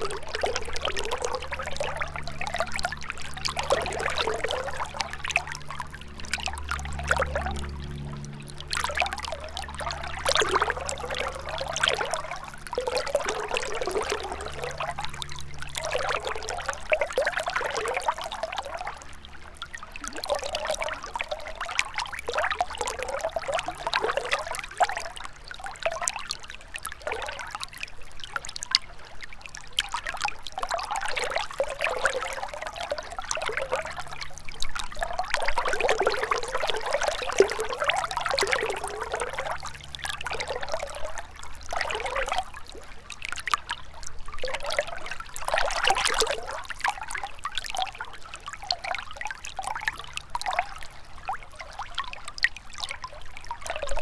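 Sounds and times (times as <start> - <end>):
river water trickling: 0.0 - 54.0.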